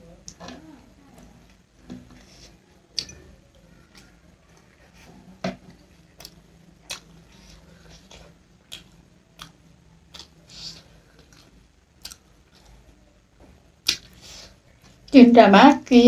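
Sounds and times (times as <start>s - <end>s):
person chewing food: 0.2s - 13.0s, 13.8s - 15.1s.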